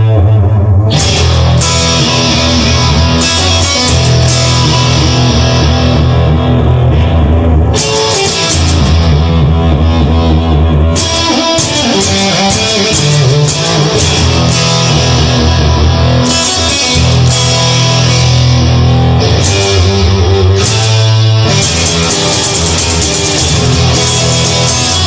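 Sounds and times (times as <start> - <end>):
bass guitar: 0.0 - 25.0
guitar riffing: 0.0 - 25.0
drum kit: 0.9 - 25.0.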